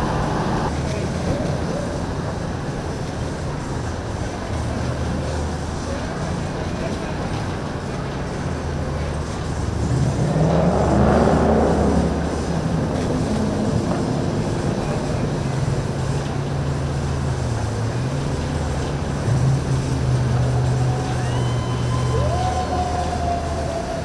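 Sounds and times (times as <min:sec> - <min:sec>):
motorboat engines droning: 0:00.0 - 0:24.0.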